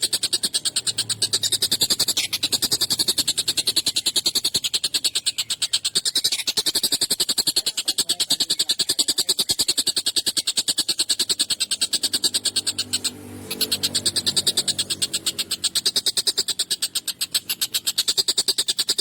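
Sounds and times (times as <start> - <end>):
kingfisher rattling chatter: 0.0 - 19.0.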